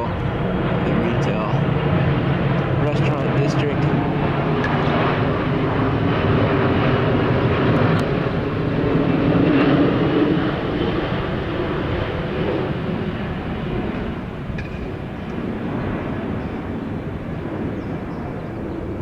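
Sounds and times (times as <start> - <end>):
jet airliner passing overhead: 0.0 - 19.0.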